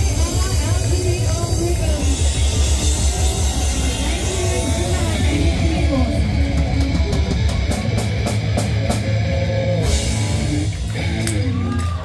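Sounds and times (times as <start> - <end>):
even drumbeat: 0.0 - 11.8
live rock band playing: 0.0 - 12.0.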